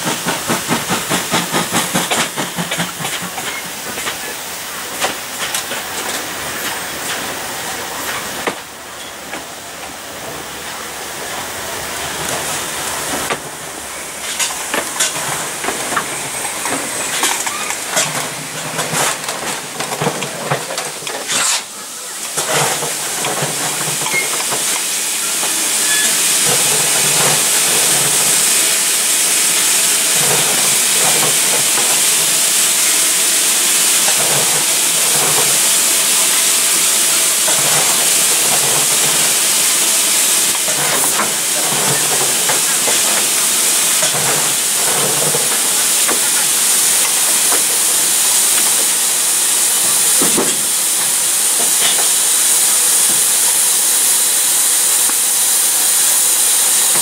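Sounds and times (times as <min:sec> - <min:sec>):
steam hissing loudly: 0:00.0 - 0:57.0.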